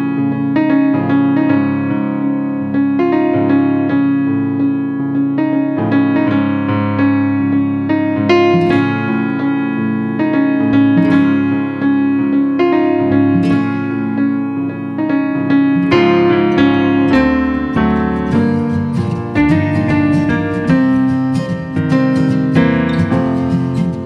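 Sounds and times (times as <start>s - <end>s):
electric piano chords: 0.0s - 24.0s.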